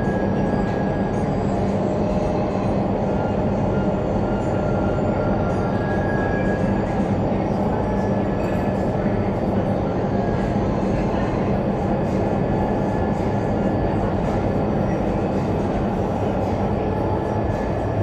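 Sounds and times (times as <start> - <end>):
low steady hum: 0.0 - 18.0
roar of air from fans: 0.0 - 18.0.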